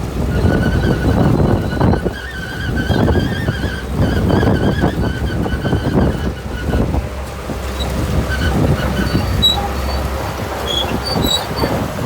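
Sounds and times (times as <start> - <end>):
diesel engine under load: 0.0 - 12.0
tracks clanking: 0.0 - 12.0
high squeaks from tracks: 0.2 - 12.0.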